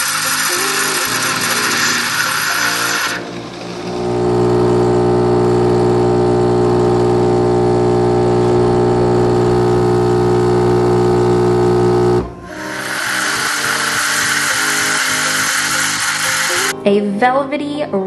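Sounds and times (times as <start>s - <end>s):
espresso machine pump hum: 0.0s - 16.7s
milk frother hiss: 0.0s - 16.7s.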